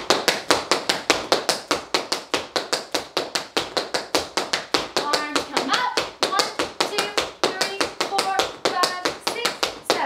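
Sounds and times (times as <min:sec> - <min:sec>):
tap shoes on wooden floor: 0:00.0 - 0:10.0.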